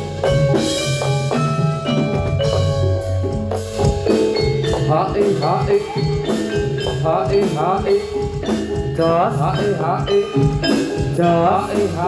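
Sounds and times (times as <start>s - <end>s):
bronze metallophones ringing: 0.0s - 12.0s.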